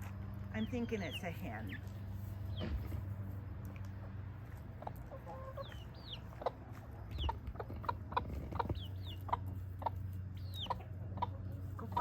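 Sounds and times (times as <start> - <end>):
chickens clucking: 0.5 - 12.0.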